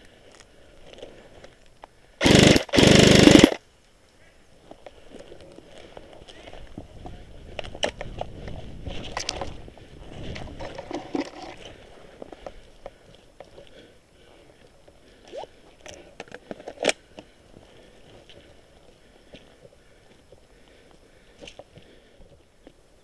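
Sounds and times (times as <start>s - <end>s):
rustling through undergrowth: 0.0s - 23.0s.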